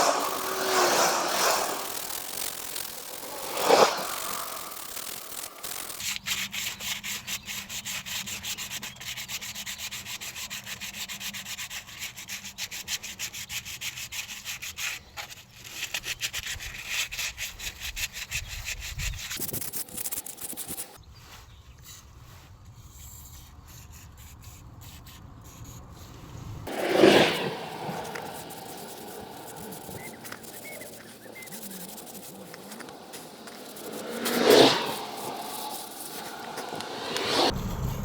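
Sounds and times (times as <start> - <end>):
scrubbing or sanding strokes: 0.0 - 25.3, 26.0 - 38.0.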